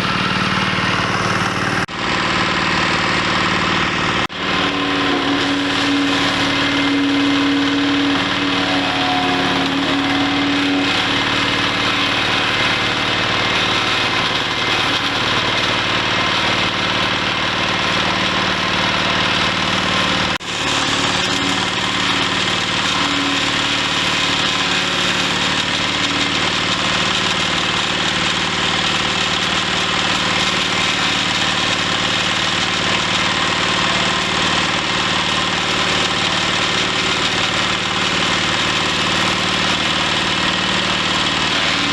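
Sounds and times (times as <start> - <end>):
wood chipper running: 0.0 - 41.9.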